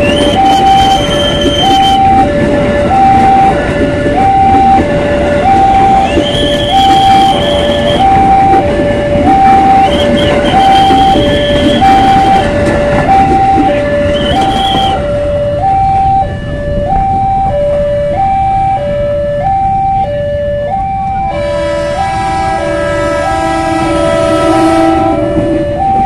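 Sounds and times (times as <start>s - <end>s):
electric train wheels rumbling: 0.0s - 26.0s
two-tone crossing warning bell: 0.0s - 26.0s.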